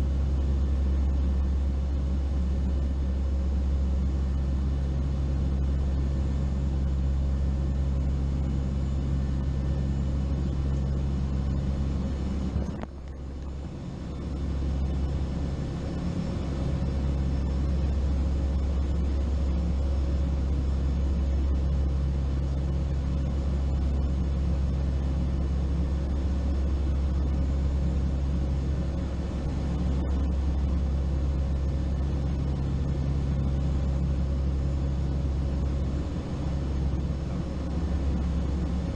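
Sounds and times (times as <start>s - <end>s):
turboprop engines droning in cabin: 0.0s - 38.9s.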